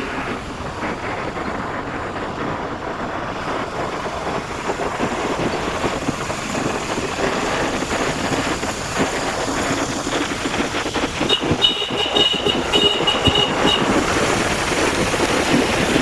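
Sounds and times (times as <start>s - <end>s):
vehicle rumbling travel noise: 0.0s - 16.0s
wind buffeting microphone: 0.0s - 16.0s.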